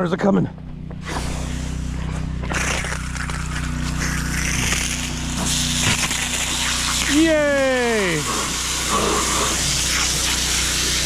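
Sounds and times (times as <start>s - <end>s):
water pump engine running: 0.6s - 11.0s
water hissing from hose: 1.0s - 11.0s.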